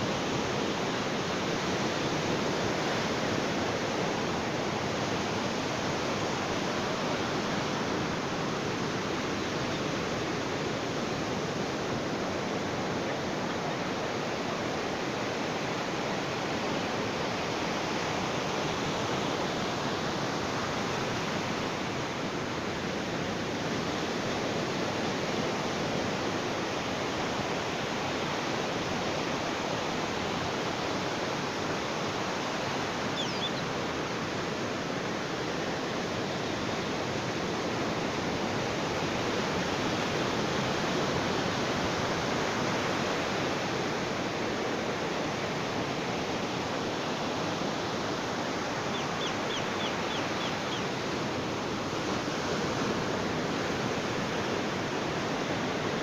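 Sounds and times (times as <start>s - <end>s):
ocean waves on a beach: 0.0s - 56.0s.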